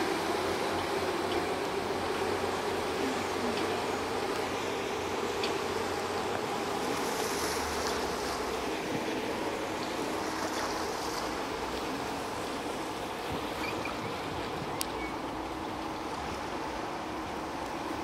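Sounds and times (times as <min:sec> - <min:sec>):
boat engine humming: 0:00.0 - 0:18.0
wake washing on water: 0:00.0 - 0:18.0.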